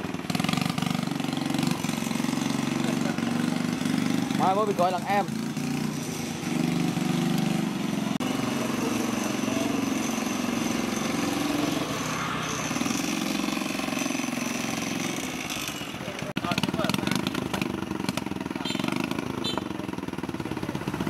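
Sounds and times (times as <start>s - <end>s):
small motorbike engine running: 0.0s - 21.0s.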